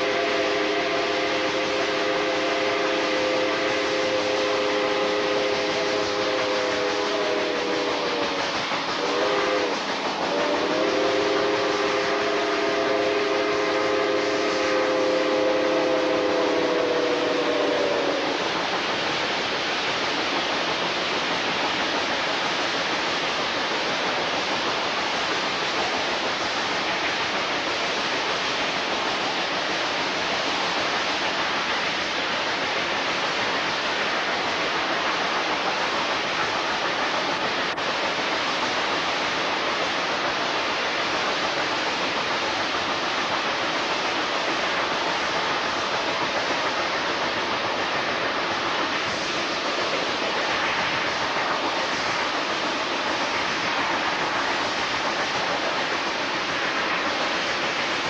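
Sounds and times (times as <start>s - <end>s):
steady rushing train noise: 0.0s - 58.0s.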